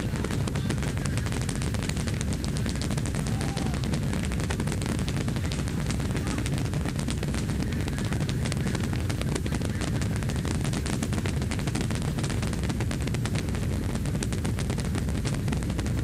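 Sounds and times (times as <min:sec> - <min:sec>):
rocket engines rumbling and crackling: 0:00.0 - 0:16.0.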